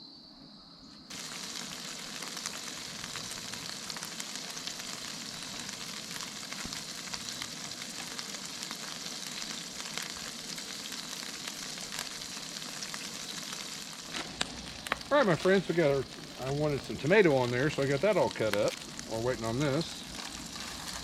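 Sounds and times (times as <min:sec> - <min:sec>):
burger patties sizzling in pan: 0:01.1 - 0:21.0
fat crackling and popping: 0:01.1 - 0:21.0.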